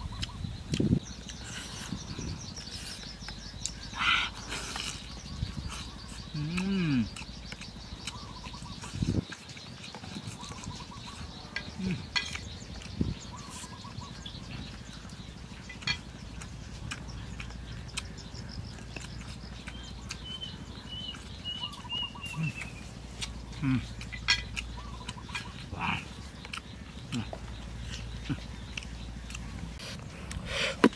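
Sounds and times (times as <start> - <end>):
bird chirping: 0.0 - 30.9
person chewing: 0.0 - 30.9.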